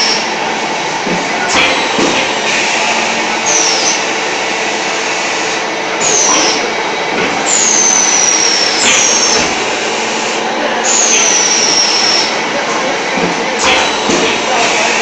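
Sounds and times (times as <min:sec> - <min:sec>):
tile making machine running: 0:00.0 - 0:15.0.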